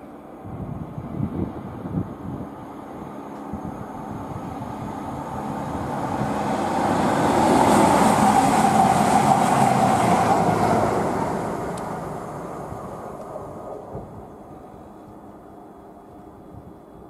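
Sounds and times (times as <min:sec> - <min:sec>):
diesel train passing: 0:00.0 - 0:17.0
train whine: 0:00.0 - 0:17.0.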